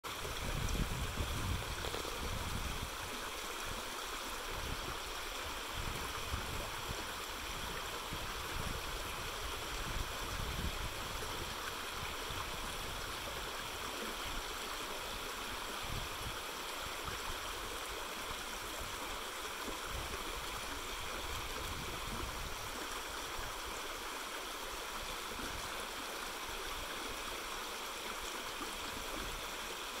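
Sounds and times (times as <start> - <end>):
brook babbling over stones: 0.0 - 30.0.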